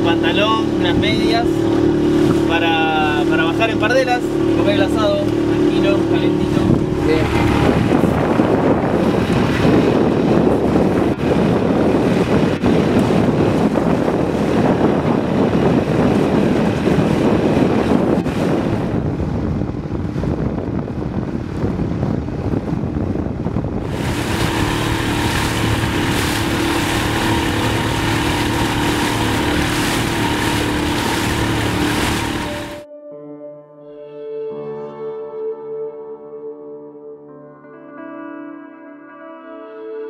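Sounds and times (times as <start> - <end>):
water rushing past hull: 0.0 - 32.8
wind on microphone: 0.0 - 32.8.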